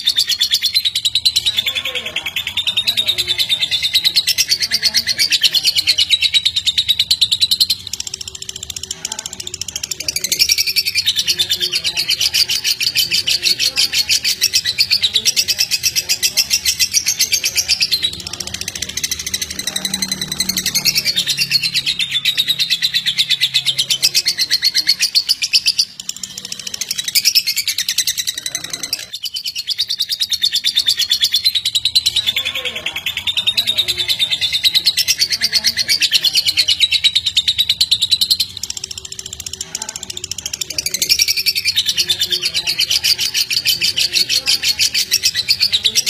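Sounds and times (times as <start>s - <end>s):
lovebird chattering trill: 0.0s - 46.0s.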